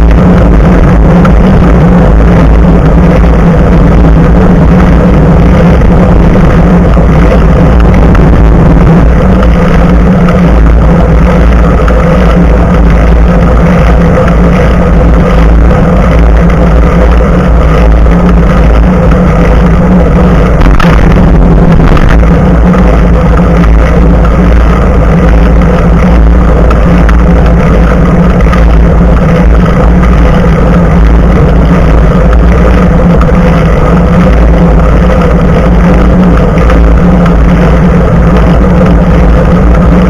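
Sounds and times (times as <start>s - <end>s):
bicycle tyre rolling: 0.0s - 40.0s
steady hum: 0.0s - 40.0s
wind rushing: 0.0s - 40.0s.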